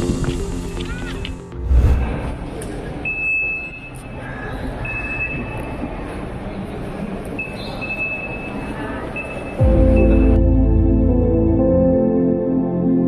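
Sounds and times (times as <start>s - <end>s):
crowd milling about: 0.0s - 10.5s.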